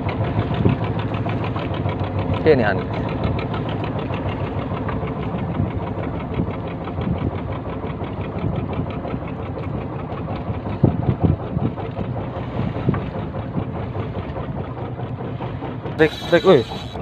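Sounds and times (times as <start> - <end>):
boat engine chugging: 0.0 - 17.0.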